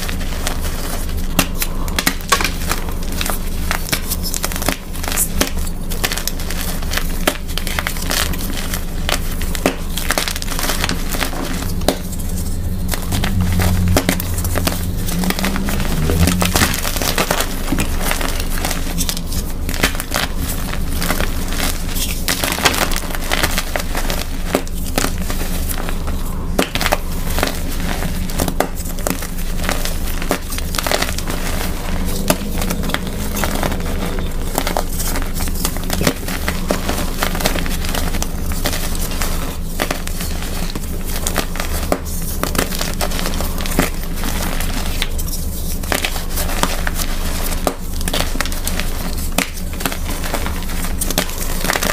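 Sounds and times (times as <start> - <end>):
chalk crunching and crackling: 0.0 - 51.9.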